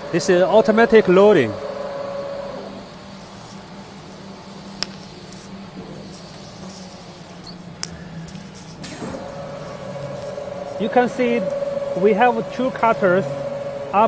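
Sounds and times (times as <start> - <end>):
machine low hum: 0.0 - 14.0.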